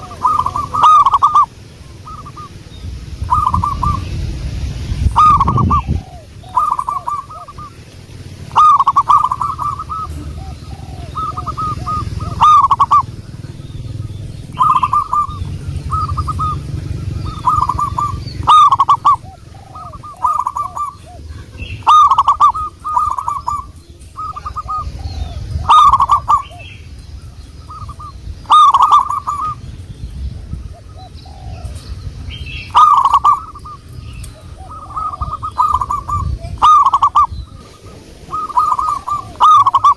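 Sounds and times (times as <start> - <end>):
doves cooing: 0.0 - 39.9
low background rumble: 0.0 - 39.9.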